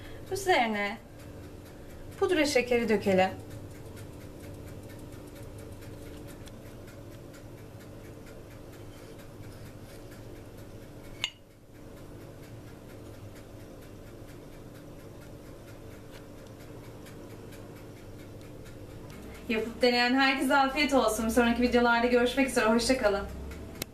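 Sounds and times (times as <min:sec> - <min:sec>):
faint steady hum: 0:00.0 - 0:23.9
light ticking: 0:00.0 - 0:23.9.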